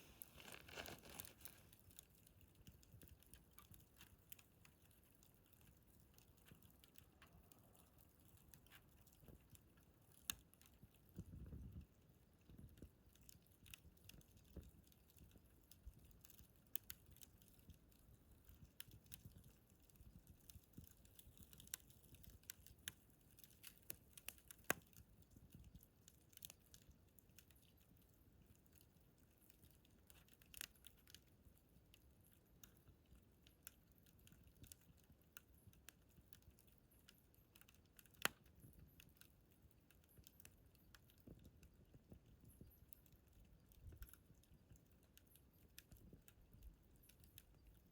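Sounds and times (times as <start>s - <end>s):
burning wood popping: 0.0s - 47.9s
wood fire crackling: 0.0s - 47.9s.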